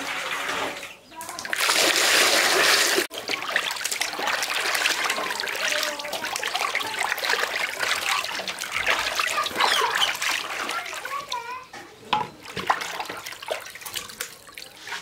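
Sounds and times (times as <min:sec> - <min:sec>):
hands splashing fish in water: 0:01.3 - 0:11.4, 0:12.4 - 0:15.0.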